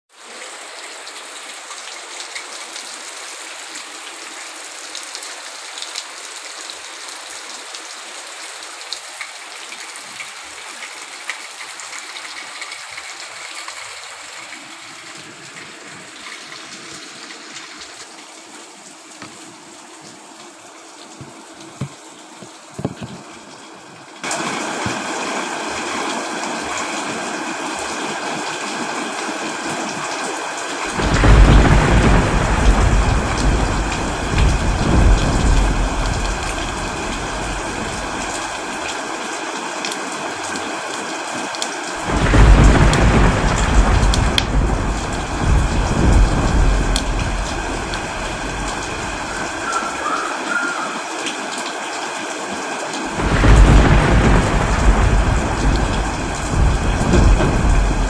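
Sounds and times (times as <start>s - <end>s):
forest stream running: 0.1s - 58.0s
steady rain: 0.1s - 58.0s.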